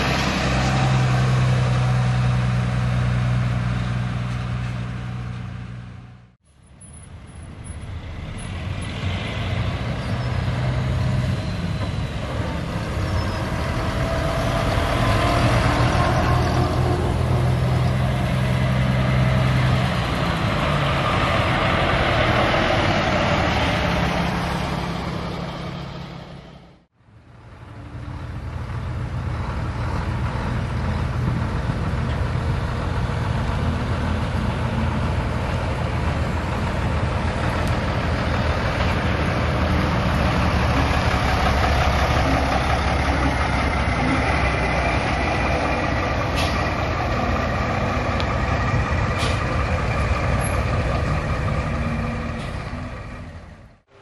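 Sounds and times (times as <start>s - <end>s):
diesel truck engines: 0.0s - 54.0s.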